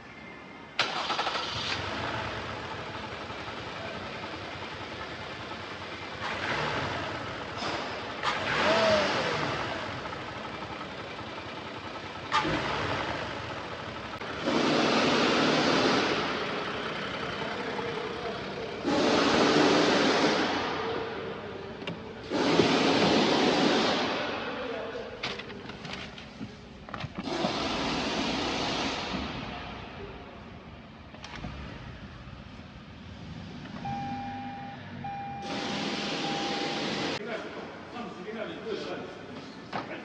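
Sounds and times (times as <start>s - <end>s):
car engine starting and running: 0.1s - 38.0s.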